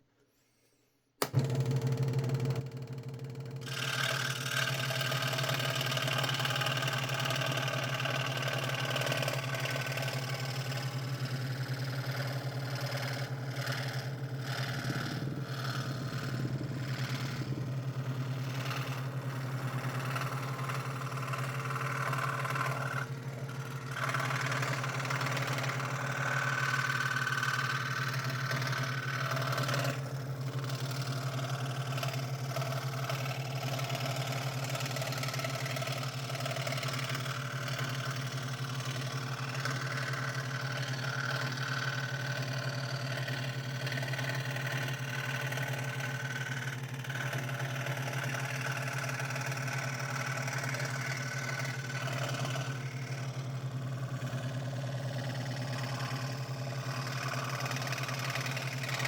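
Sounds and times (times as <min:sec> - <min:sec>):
scroll saw motor hum: 0:00.4 - 0:59.0
saw rasping through wood: 0:03.6 - 0:59.0.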